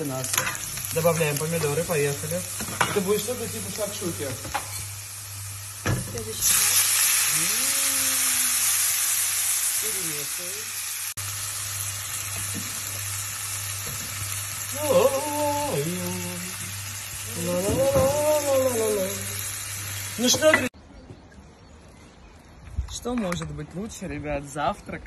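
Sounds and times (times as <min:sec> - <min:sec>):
tomatoes sizzling in hot oil: 0:00.0 - 0:20.7.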